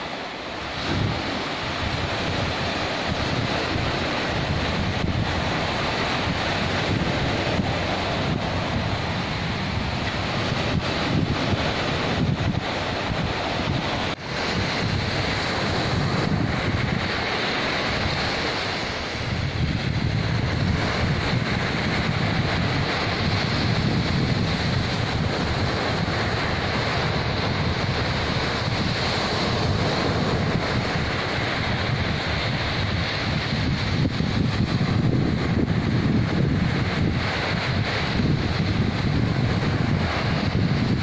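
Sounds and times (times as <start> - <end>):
sea waves breaking on beach: 0.0 - 41.0
wind buffeting microphone: 0.0 - 41.0.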